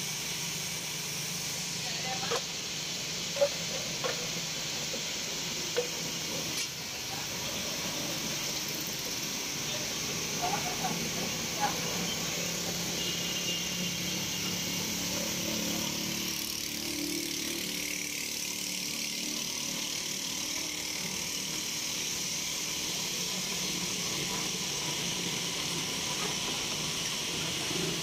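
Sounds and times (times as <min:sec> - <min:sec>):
constant hiss: 0:00.0 - 0:28.0.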